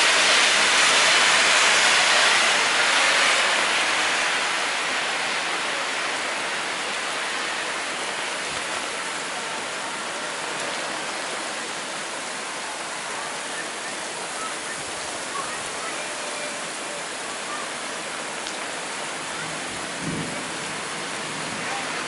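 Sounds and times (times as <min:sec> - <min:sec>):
heavy rain pouring on street: 0:00.0 - 0:22.0.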